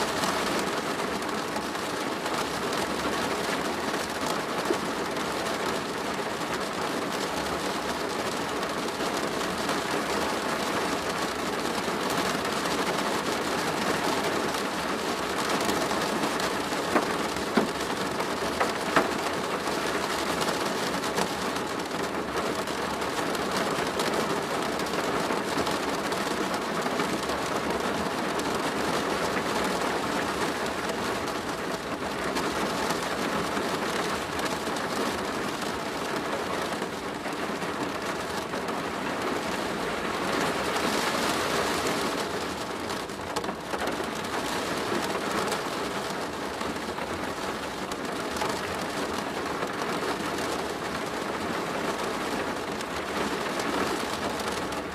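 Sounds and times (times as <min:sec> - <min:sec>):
rain on a plastic roof: 0:00.0 - 0:54.9.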